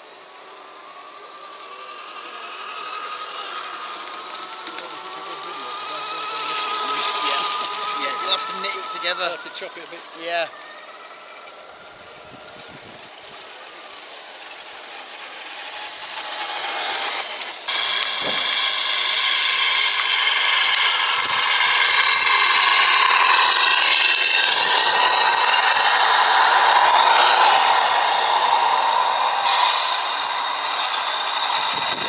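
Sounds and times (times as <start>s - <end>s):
model truck motor whine: 0.0s - 32.0s.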